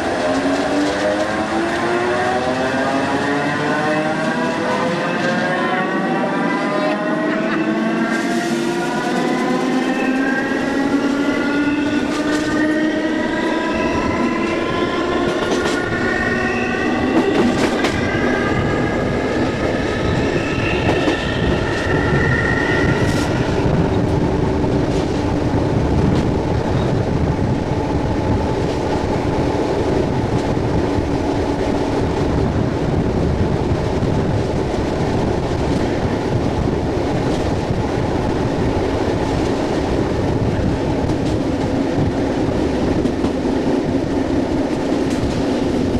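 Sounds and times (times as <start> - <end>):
train rumbling along track: 0.0 - 45.9.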